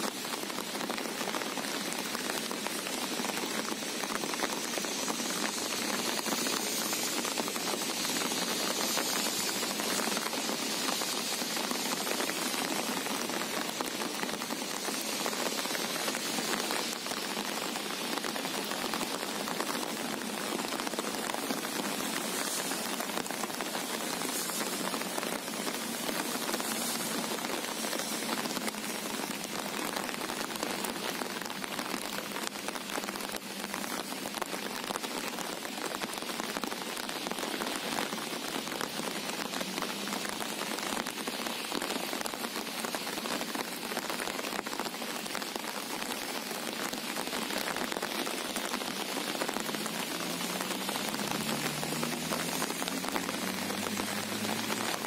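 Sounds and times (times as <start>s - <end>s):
rain falling on sea water: 0.0s - 55.0s.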